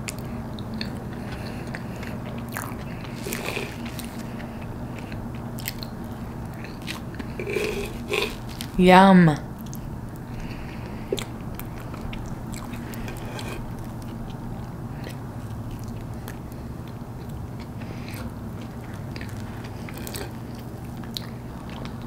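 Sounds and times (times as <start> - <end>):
person chewing: 0.0 - 8.8, 9.6 - 22.0.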